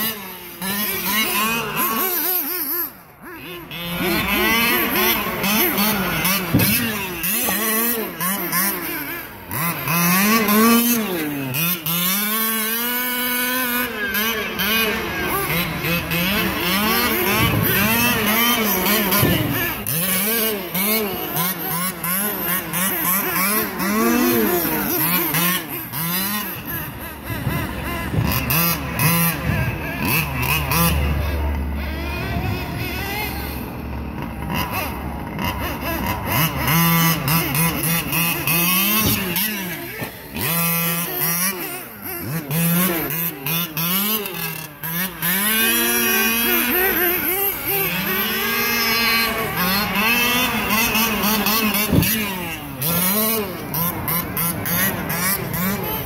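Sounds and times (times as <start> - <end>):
toy car motor whining: 0.0 - 56.0.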